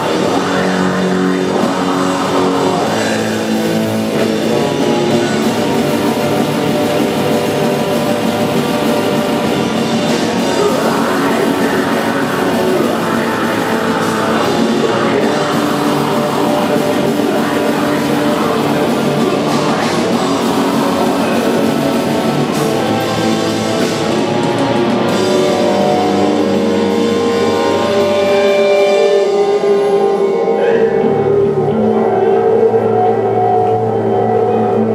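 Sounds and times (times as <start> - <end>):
heavy metal band playing live: 0.0 - 34.9.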